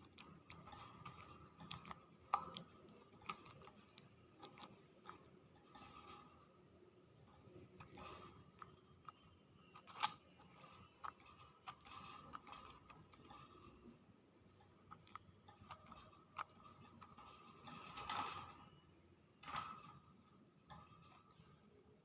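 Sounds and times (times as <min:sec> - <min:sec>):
faint clicks and ticks: 0:00.0 - 0:22.0.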